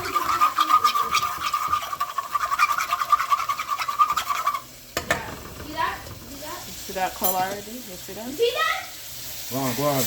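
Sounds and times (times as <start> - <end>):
sauce sizzling in a pot: 0.0 - 10.0.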